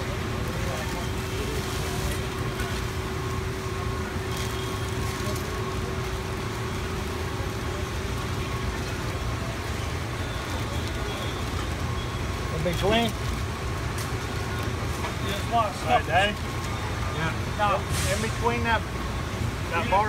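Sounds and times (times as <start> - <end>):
factory machinery hum: 0.0 - 20.0.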